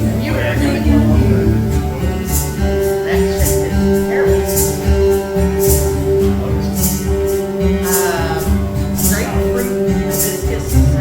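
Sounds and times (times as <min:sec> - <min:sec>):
guitar: 0:00.0 - 0:11.0
person singing: 0:00.0 - 0:11.0.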